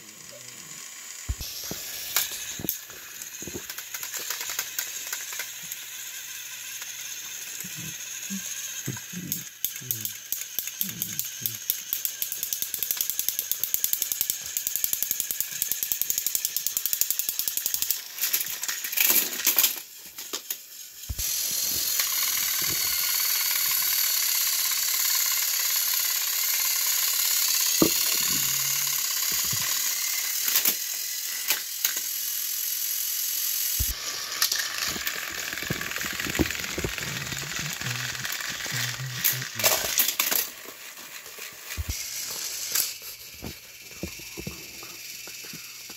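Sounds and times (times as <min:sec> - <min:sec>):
toy train motors whirring: 0:00.0 - 0:45.9.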